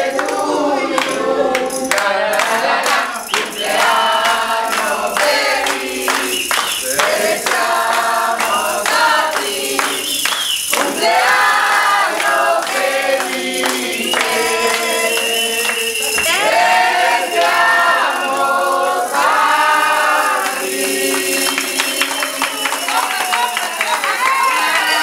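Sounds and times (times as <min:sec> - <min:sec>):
group singing birthday song: 0:00.0 - 0:25.0.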